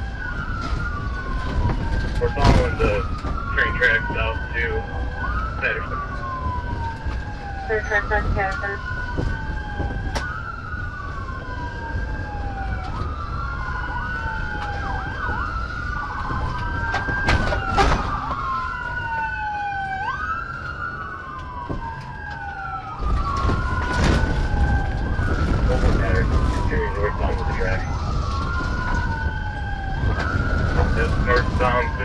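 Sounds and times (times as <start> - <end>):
police sirens wailing: 0.0 - 32.0.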